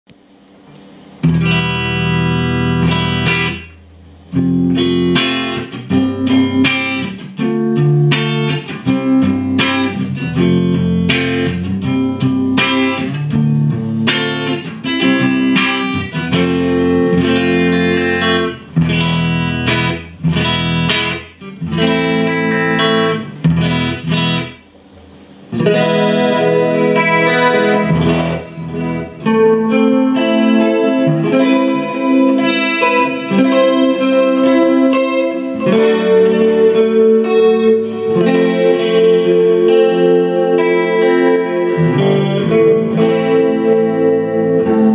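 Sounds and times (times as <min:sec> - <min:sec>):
electric guitar playing: 0:00.1 - 0:44.9.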